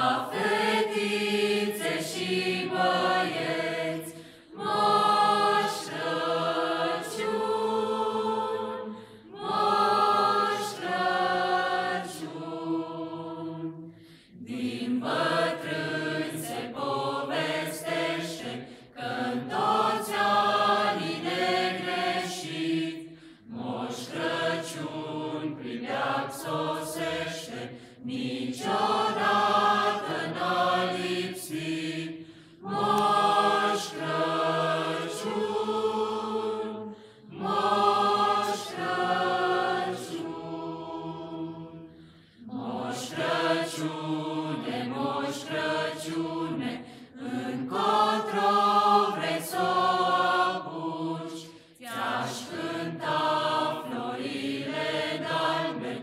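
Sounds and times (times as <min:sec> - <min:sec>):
mixed choir singing a cappella: 0:00.0 - 0:56.0.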